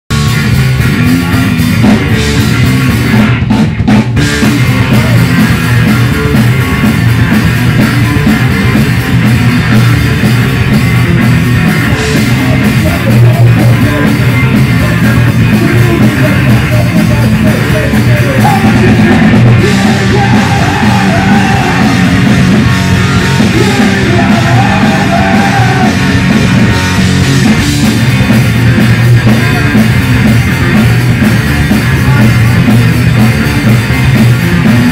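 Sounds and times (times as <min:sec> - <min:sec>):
driving bass guitar: 0:00.0 - 0:34.9
drum kit: 0:00.1 - 0:34.9
punk rock band playing live: 0:00.1 - 0:34.9.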